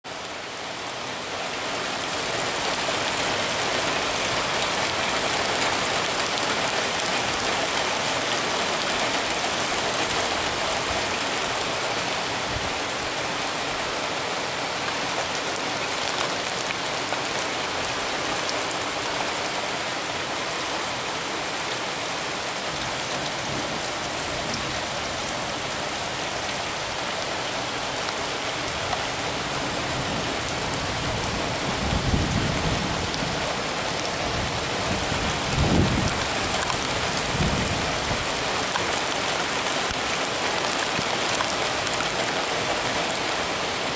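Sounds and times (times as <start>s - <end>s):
heavy rain on asphalt: 0.0s - 43.9s.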